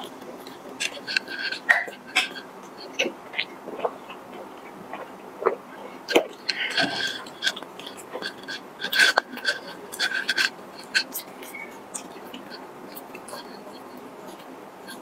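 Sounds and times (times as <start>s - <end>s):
mouth clicks and smacks: 0.0s - 15.0s
person chewing food: 0.0s - 15.0s.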